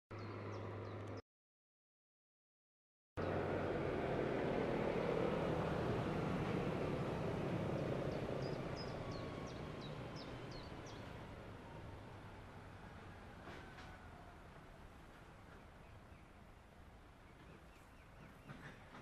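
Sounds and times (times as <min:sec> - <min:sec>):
outdoor background rumble: 0:00.1 - 0:01.2, 0:03.2 - 0:19.0.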